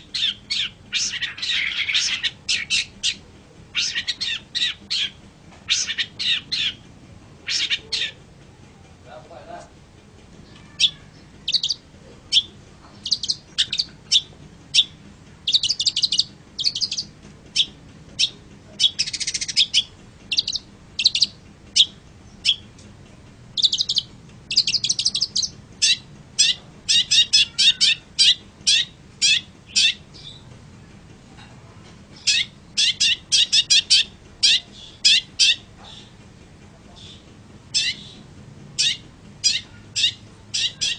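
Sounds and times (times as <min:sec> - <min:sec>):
bird chirps and trills: 0:00.0 - 0:08.3, 0:10.4 - 0:22.8, 0:23.4 - 0:30.6, 0:32.1 - 0:36.2, 0:36.9 - 0:40.9.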